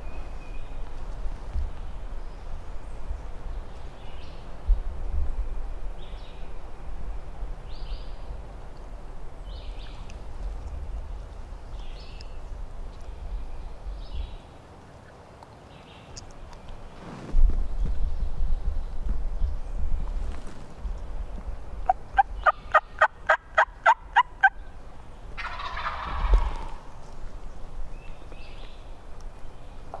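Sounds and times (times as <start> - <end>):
wind rumble on microphone: 0.0 - 14.5, 16.4 - 30.0
songbird chirping: 0.0 - 30.0.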